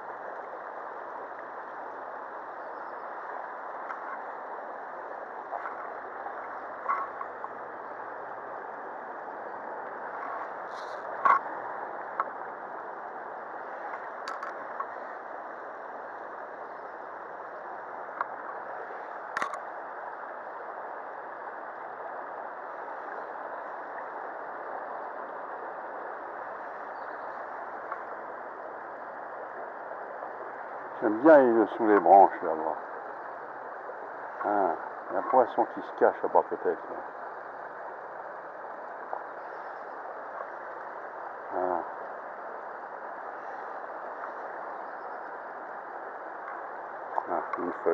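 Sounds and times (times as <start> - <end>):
river running over stones: 0.0 - 47.9.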